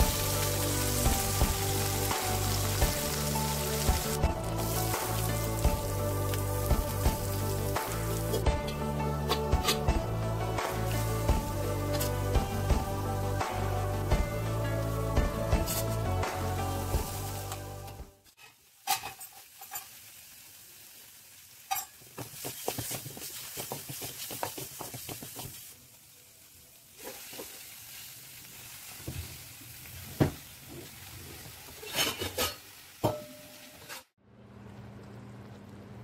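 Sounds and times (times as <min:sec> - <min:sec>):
onions sizzling in oil: 0:00.0 - 0:34.1.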